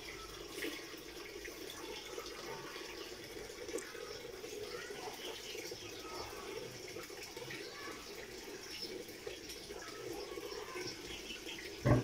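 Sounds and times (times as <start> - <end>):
trickling water: 0.0 - 12.0.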